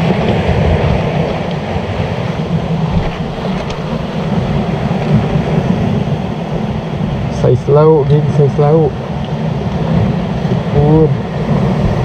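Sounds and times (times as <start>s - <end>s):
sea waves against rocks: 0.0s - 12.0s
wind noise on microphone: 0.0s - 12.0s.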